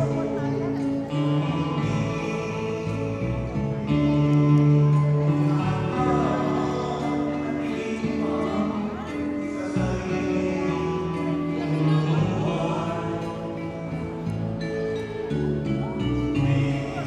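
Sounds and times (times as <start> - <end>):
person singing: 0.0 - 17.0
slow song with long held notes: 0.0 - 17.0.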